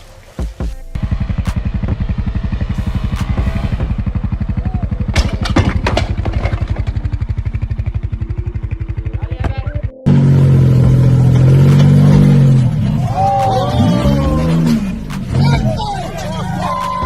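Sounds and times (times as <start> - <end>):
vehicle engine pulsing: 0.4 - 17.0
engine droning: 0.8 - 17.0
engine knocks and clatters: 0.9 - 17.0.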